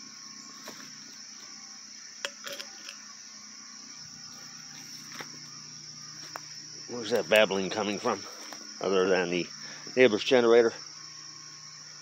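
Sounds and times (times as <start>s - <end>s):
distant generator hum: 0.0s - 12.0s
insects chirring: 0.0s - 12.0s.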